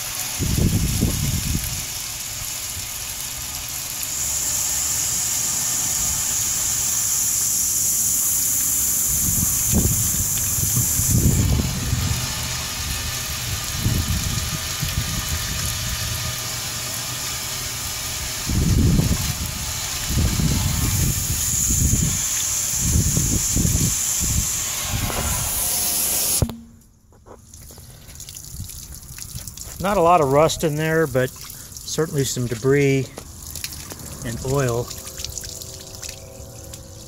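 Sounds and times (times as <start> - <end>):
water splashing onto pavement: 0.0 - 20.4, 27.4 - 37.0
water rushing through metal tank: 0.0 - 26.5, 27.5 - 37.0.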